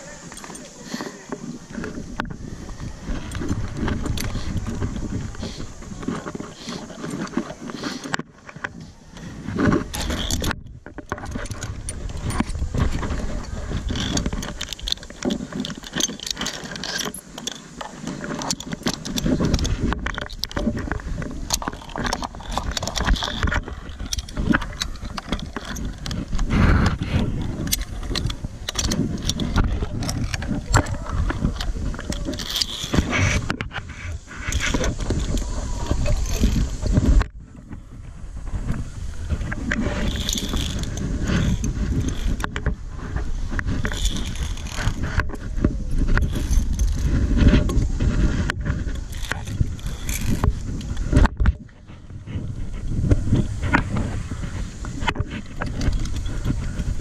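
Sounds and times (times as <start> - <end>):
low microphone rumble: 0.0 - 7.7, 18.1 - 57.0
metal clip scraping on cable: 3.1 - 37.3, 39.4 - 42.8, 43.5 - 51.6.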